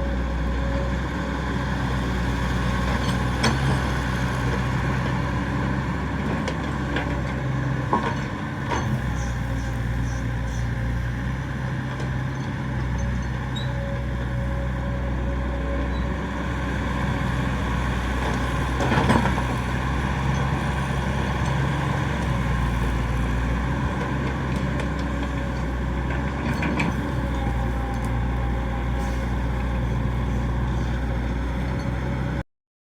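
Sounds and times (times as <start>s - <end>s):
excavator diesel engine running: 0.0s - 32.4s.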